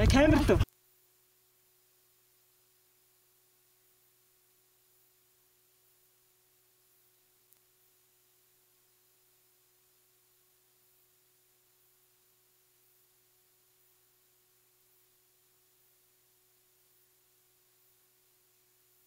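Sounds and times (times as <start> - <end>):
faint steady hiss: 0.0 - 19.0
thin steady hum: 0.0 - 19.0.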